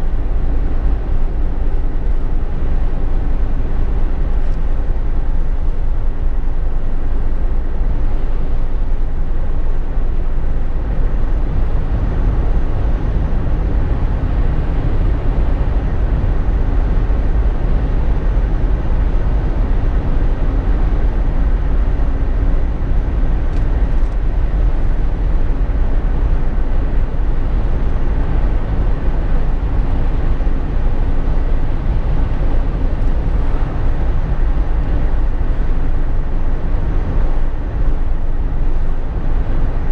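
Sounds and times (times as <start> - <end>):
car cabin rumble while driving: 0.0 - 39.9.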